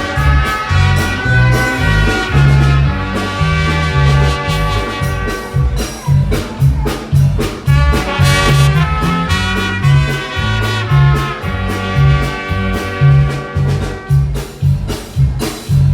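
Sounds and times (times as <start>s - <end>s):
upbeat music with horns: 0.0s - 15.9s.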